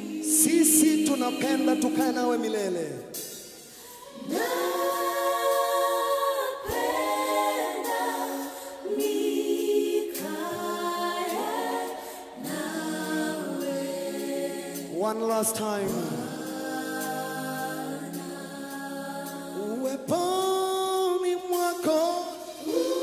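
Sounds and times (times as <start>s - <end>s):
choir singing unaccompanied: 0.0s - 2.8s, 3.8s - 20.4s, 22.2s - 23.0s.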